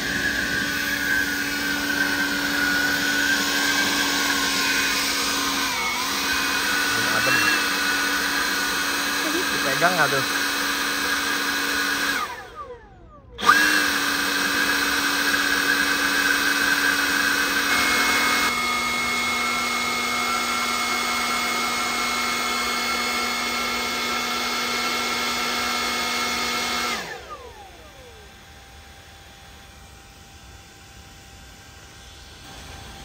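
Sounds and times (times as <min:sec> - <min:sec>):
battery blower whining: 0:00.0 - 0:33.0.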